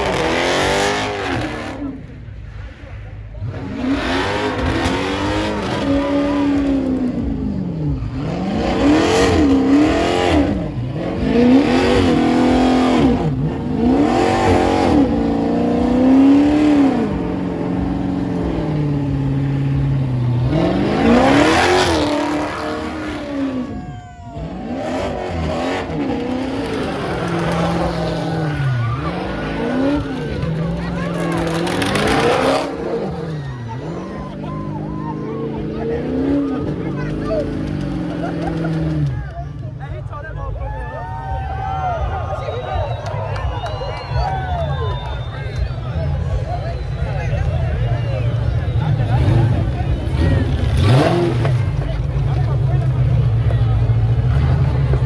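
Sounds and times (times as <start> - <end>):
truck engine revving: 0.0 - 40.2, 42.4 - 55.0.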